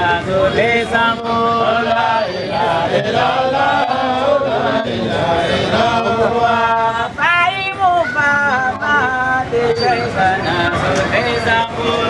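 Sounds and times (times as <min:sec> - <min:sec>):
group chanting held notes: 0:00.0 - 0:12.0.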